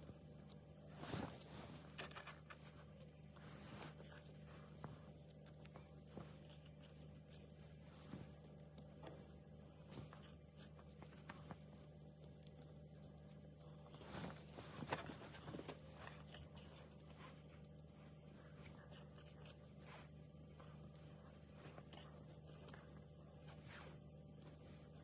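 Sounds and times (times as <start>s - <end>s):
low hum: 0.0s - 25.0s
small clicks and scrapes: 0.0s - 25.0s.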